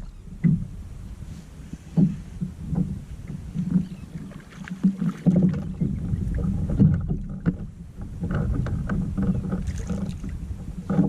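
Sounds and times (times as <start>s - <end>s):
knocks and rubbing on kayak hull: 0.0s - 11.0s
steady low rumble: 0.0s - 11.0s.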